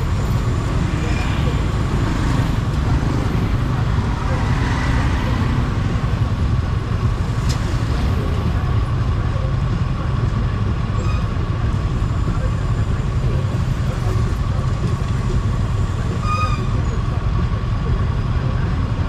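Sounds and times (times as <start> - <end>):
motorcycle engine running: 0.0 - 16.2
city traffic: 0.0 - 19.0.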